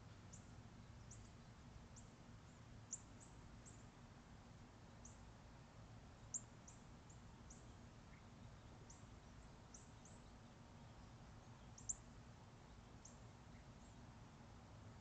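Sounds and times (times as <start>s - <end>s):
faint low steady hum: 0.0s - 15.0s.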